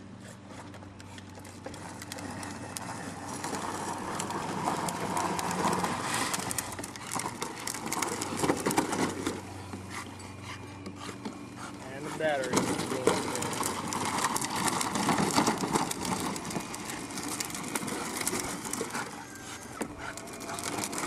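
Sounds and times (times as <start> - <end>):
plastic wheels rolling and clicking: 0.6 - 21.0.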